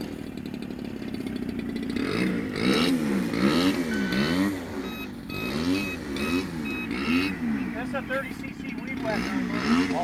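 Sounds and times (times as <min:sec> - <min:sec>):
two-stroke engine revving: 0:00.0 - 0:10.0.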